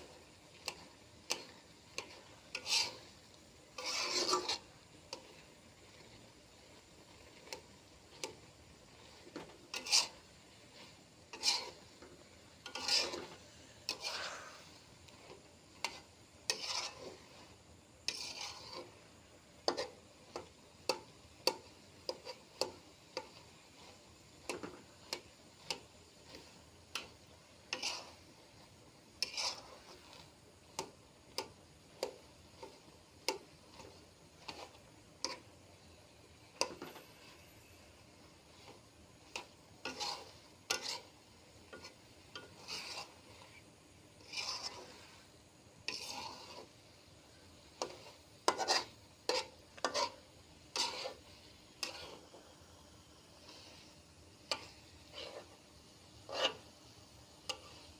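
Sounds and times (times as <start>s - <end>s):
spatula scraping a pan: 0.0s - 57.9s.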